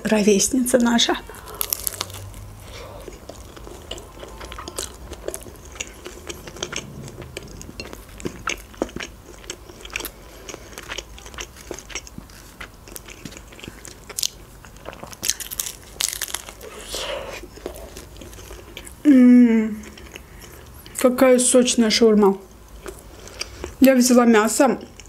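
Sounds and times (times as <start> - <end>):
person chewing food: 1.3 - 19.0, 19.7 - 21.0, 22.5 - 23.8, 24.8 - 25.0.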